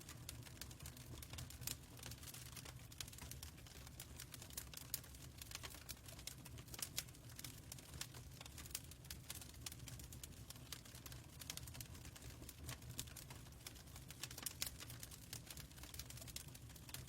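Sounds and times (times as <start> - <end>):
fireplace crackling and popping: 0.0 - 17.0.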